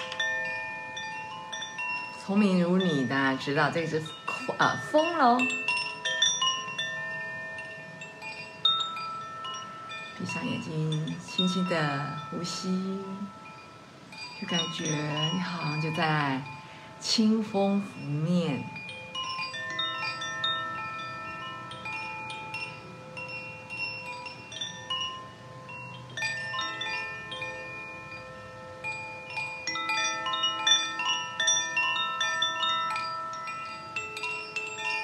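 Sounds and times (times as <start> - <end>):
bamboo wind chime ringing: 0.0 - 35.0.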